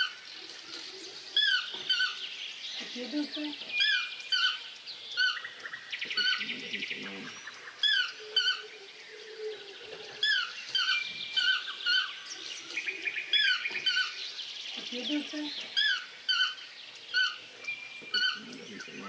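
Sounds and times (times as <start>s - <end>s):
birds whistling: 1.4s - 19.0s.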